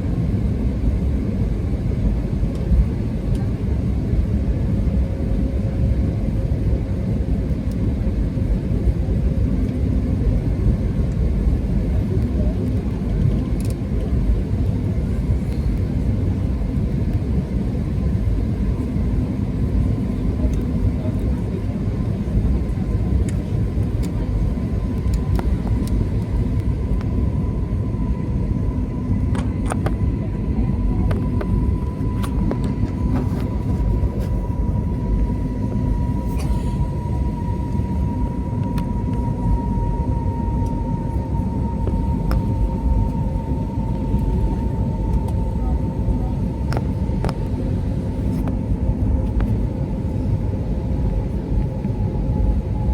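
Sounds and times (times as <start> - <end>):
airliner engine and airflow rumble: 0.0 - 52.9.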